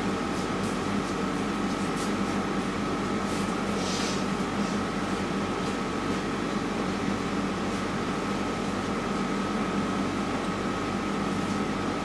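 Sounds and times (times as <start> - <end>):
fan-like hum and hiss: 0.0 - 12.0.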